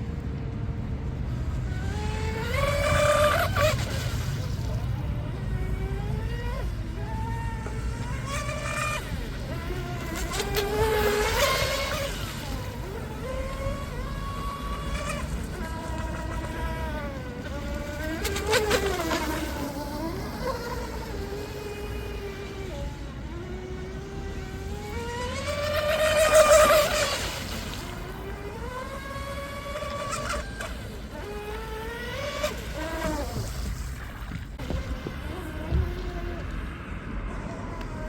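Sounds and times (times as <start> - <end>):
electric motor whining: 1.6 - 38.0.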